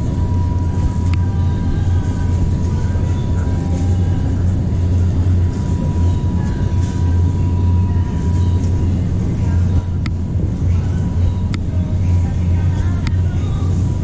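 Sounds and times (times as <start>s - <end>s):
steady low rumble: 0.0s - 14.0s
thin high whine: 0.0s - 14.0s.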